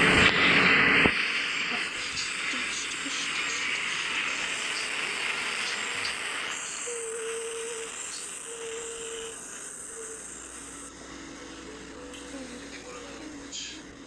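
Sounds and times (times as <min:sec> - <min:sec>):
faint steady hum: 0:00.0 - 0:14.0
high buzzing hiss: 0:00.0 - 0:14.0.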